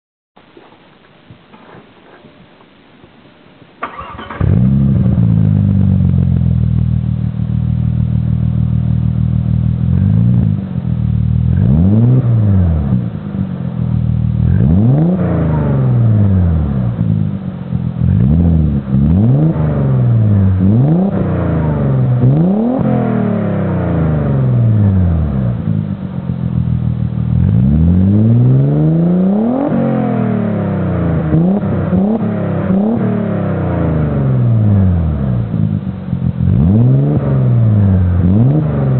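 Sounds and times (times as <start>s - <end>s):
car engine idling and revving: 3.8s - 38.9s.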